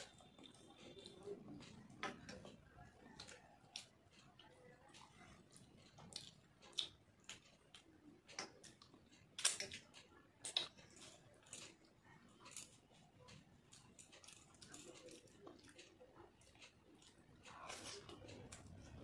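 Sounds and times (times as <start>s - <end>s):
chewing and mouth clicks: 0.0s - 19.0s.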